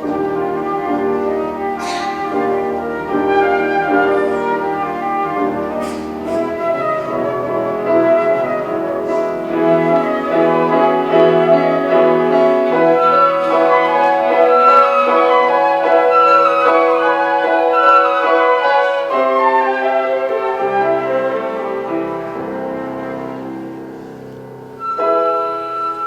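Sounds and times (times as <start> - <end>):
flute melody: 0.0 - 26.0
held cello and piano notes: 0.0 - 26.0.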